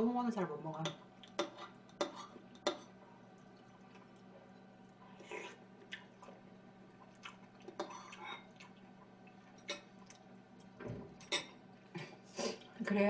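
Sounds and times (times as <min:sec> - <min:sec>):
faint steady hum: 0:00.0 - 0:13.0
soft eating sounds: 0:00.8 - 0:13.0.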